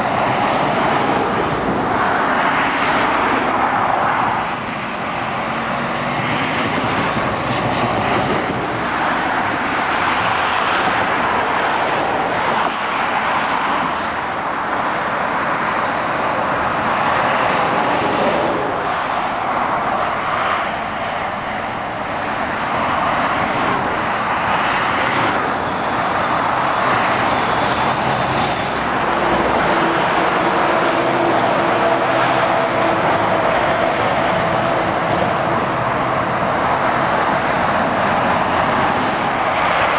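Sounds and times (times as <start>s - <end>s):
cars and lorries passing: 0.0s - 39.9s
tyres rushing on road: 0.0s - 39.9s.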